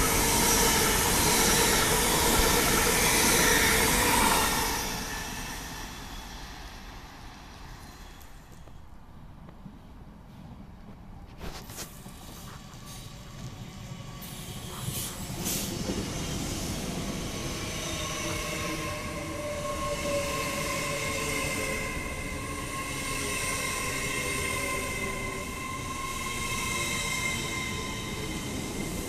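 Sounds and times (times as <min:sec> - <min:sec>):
high train whine: 0:00.0 - 0:29.0
train wheels rumbling on rail: 0:00.0 - 0:29.0.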